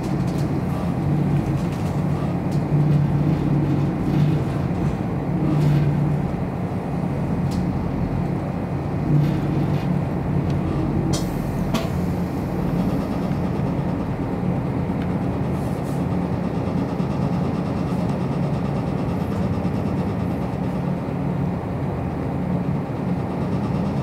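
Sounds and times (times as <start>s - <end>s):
diesel engine running: 0.0s - 24.0s
train rolling noise: 0.0s - 24.0s.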